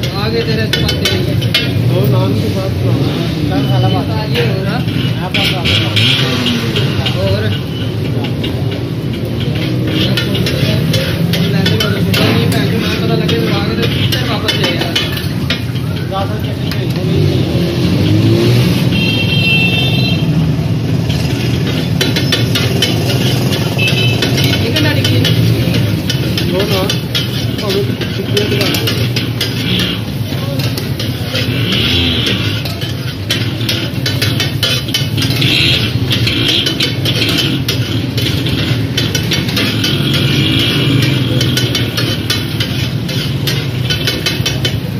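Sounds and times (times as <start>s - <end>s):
metal spatula clicking on griddle: 0.0s - 2.1s, 4.8s - 18.2s, 21.1s - 44.9s
vehicle engine rumbling: 0.0s - 44.9s.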